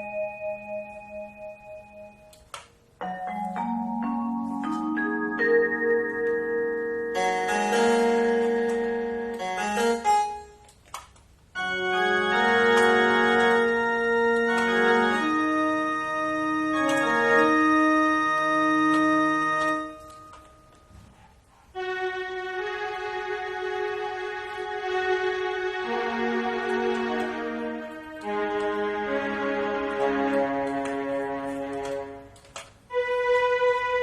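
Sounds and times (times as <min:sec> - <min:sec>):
keyboard playing organ-like chords: 0:00.0 - 0:10.8, 0:11.5 - 0:21.0, 0:21.8 - 0:34.0.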